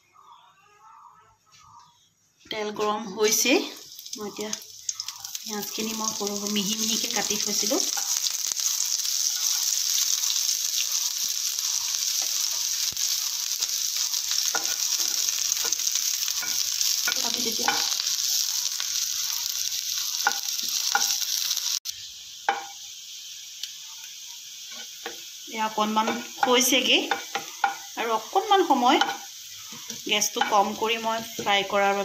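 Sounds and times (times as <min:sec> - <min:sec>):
onions sizzling in a frying pan: 0:03.1 - 0:32.0.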